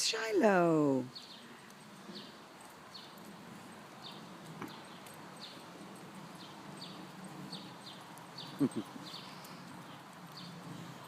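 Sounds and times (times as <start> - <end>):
bird chirping: 1.0 - 3.3, 3.9 - 10.9.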